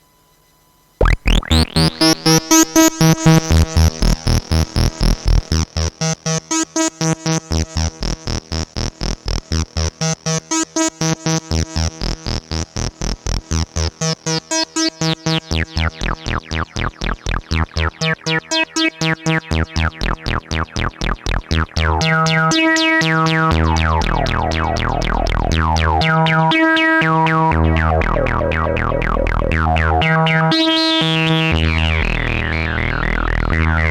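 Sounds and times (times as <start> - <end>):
analog synthesizer sequence: 1.0 - 33.9.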